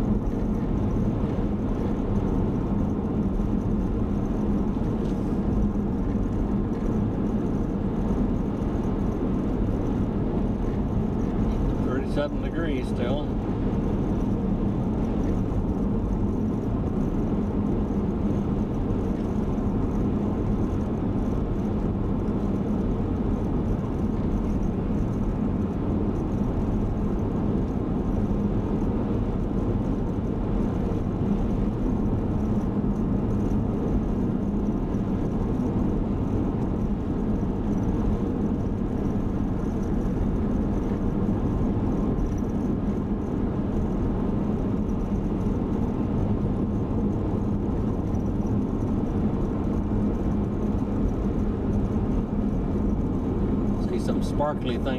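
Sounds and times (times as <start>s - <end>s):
car engine hum: 0.0s - 54.9s
tyre road noise: 0.0s - 54.9s.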